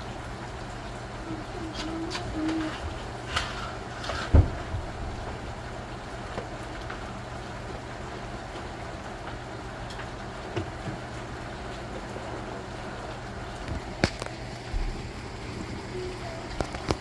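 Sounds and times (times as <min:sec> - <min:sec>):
rain hissing: 0:00.0 - 0:17.0
raindrops ticking nearby: 0:00.0 - 0:17.0.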